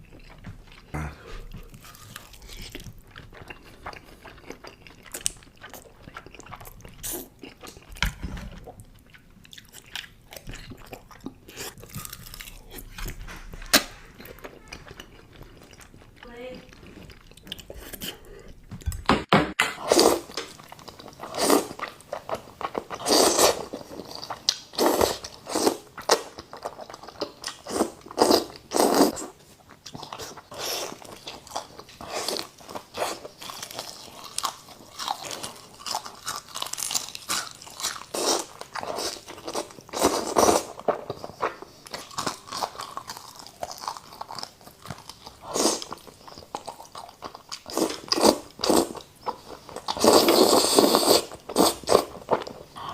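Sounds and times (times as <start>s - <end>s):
wet chewing and slurping: 0.0s - 8.0s, 8.6s - 18.6s, 19.8s - 52.9s.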